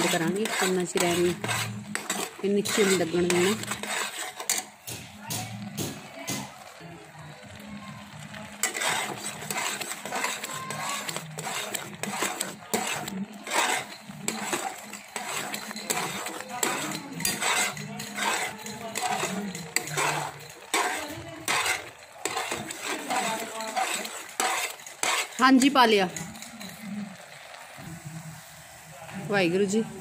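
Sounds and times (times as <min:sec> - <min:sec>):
spoon scraping metal pan: 0:00.0 - 0:06.4, 0:08.2 - 0:27.6.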